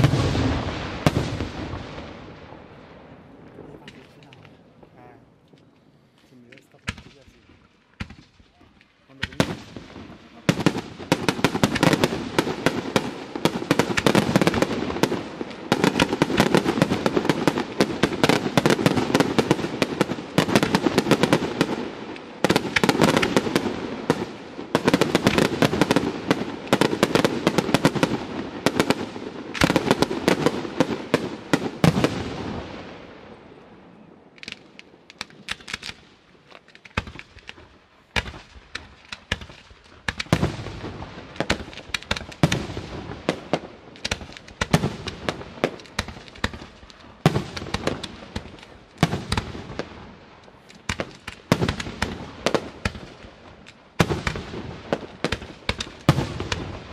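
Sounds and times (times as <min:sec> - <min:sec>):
firework bangs: 0:00.0 - 0:04.9, 0:06.4 - 0:56.9
fireworks bursts and crackling: 0:00.0 - 0:56.9.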